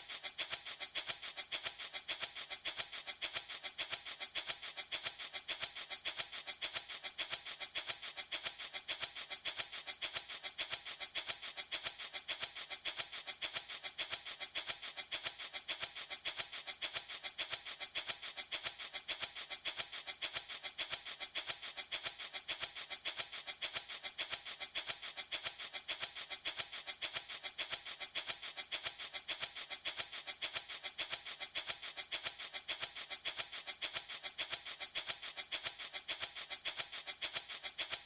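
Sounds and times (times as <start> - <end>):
baby rattle shaken: 0.0 - 38.0.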